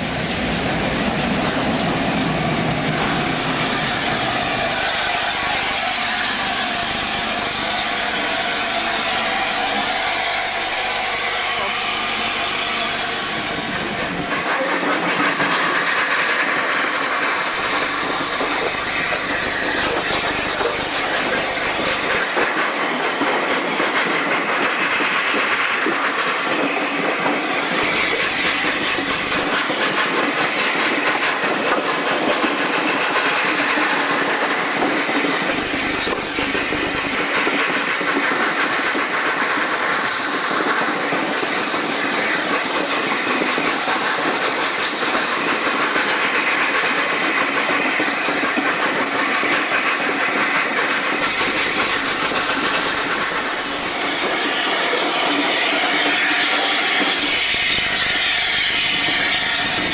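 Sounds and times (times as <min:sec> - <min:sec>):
steam hissing: 0:00.0 - 0:59.9
train wheels clattering on rails: 0:00.0 - 0:59.9.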